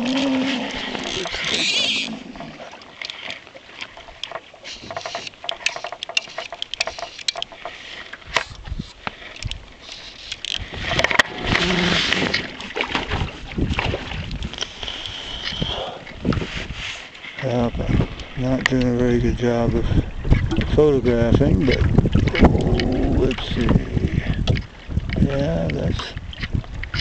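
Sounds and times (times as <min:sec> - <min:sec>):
knocks and rubbing in a boat: 0:00.0 - 0:27.0
water rushing and splashing: 0:00.0 - 0:27.0.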